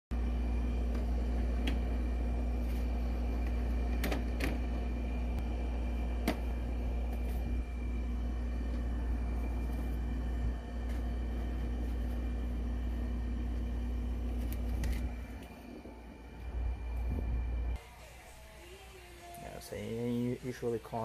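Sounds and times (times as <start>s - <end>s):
faint steady whine: 0.1s - 21.0s
low machine hum: 0.1s - 21.0s.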